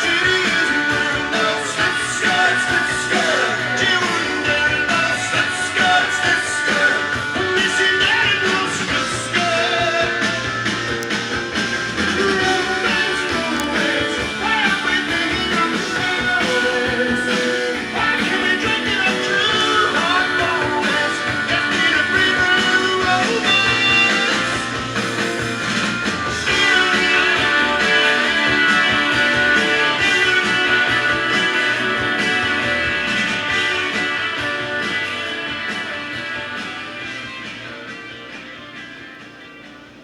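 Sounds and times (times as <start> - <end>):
rock music from vinyl record: 0.0 - 40.0.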